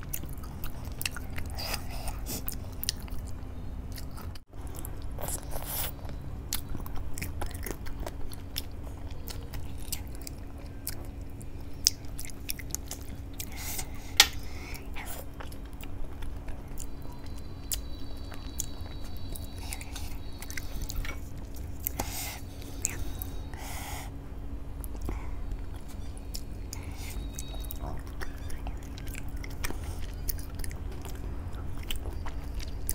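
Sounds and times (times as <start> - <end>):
person chewing with wet smacks: 0.0 - 23.6, 24.8 - 32.9
faint steady hum: 0.0 - 32.9.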